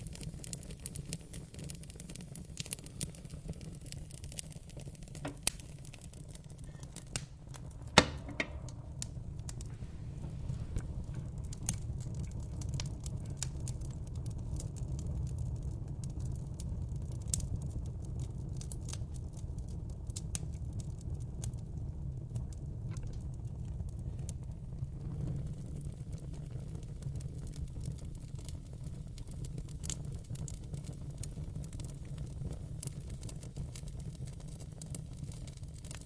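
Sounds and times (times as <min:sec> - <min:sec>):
fire crackling with pops: 0:00.0 - 0:36.0.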